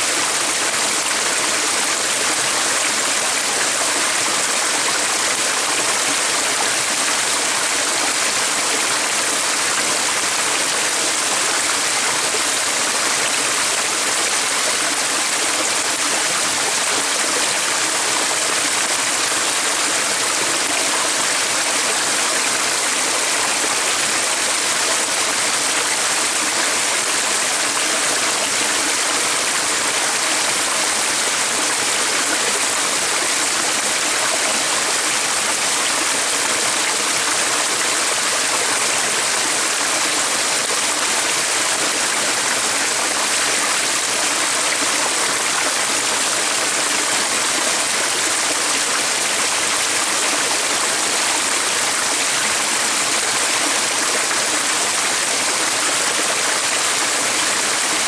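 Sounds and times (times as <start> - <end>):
stream running water: 0.0 - 58.0.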